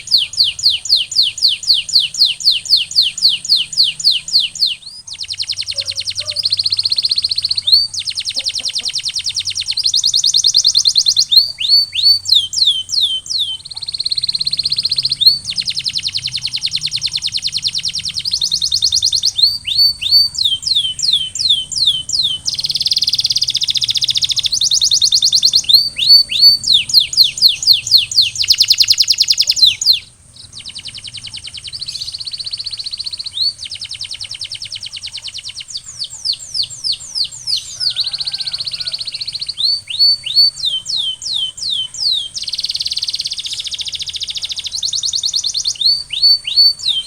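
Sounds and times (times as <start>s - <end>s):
canary singing trills: 0.0s - 47.0s.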